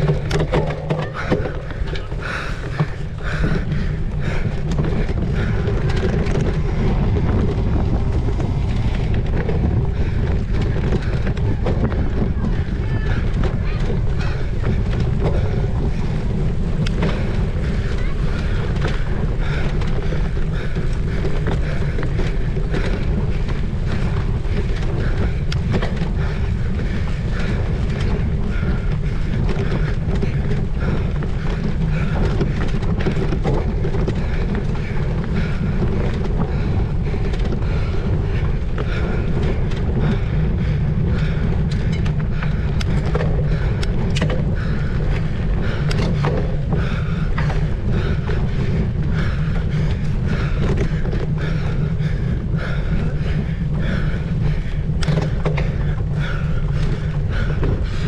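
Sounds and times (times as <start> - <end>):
bike knocks and rattles: 0.0 - 58.0
low rumble: 0.0 - 58.0
wind on microphone: 0.0 - 58.0.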